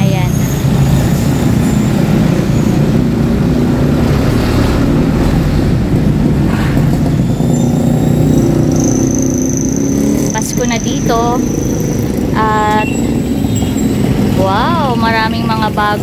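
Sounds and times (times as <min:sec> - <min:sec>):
motor vehicle engines running: 0:00.0 - 0:16.0.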